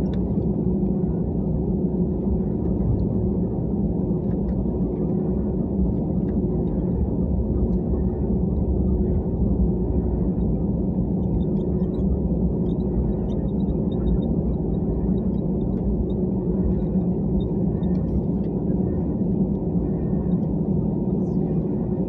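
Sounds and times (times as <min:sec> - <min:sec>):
jet airliner taxiing rumble: 0:00.0 - 0:22.0.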